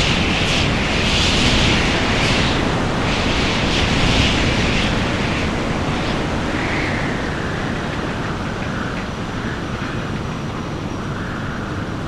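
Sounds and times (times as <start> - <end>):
wind rushing: 0.0 - 12.0.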